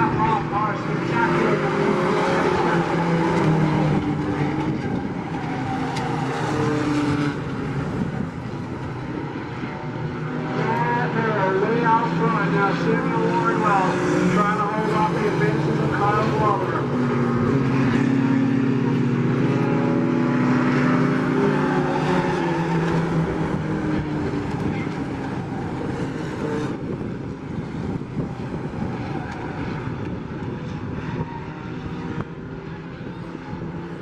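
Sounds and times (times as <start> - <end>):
race truck engines: 0.0 - 34.0.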